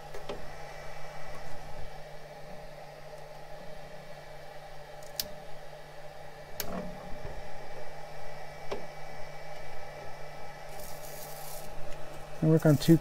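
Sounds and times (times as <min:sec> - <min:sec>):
printer humming: 0:00.0 - 0:13.0.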